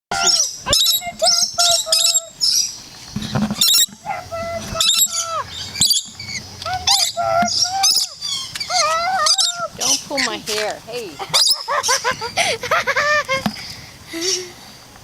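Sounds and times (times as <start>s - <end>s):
parrots screeching: 0.1s - 2.8s, 3.6s - 13.2s.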